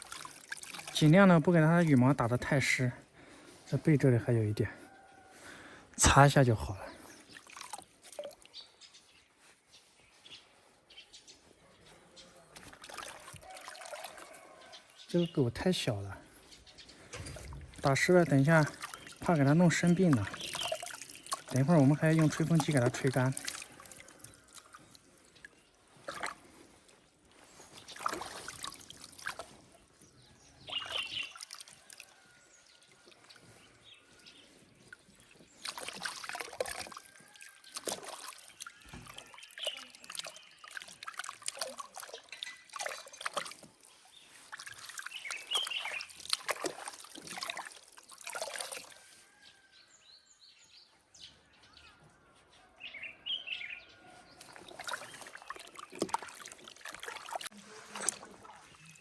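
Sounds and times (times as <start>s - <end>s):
water sloshing in a basin: 0.0s - 9.1s, 11.9s - 49.7s, 52.8s - 59.0s.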